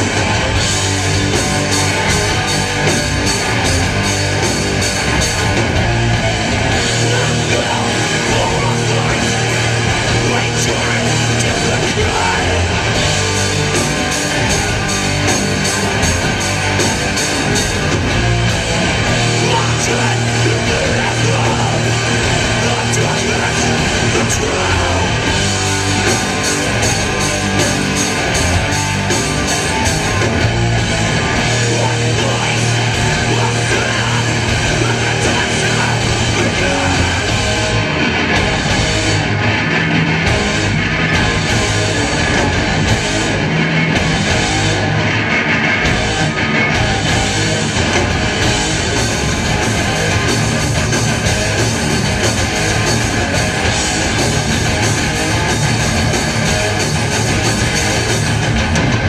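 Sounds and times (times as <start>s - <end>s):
heavy metal band playing live: 0.0s - 59.0s.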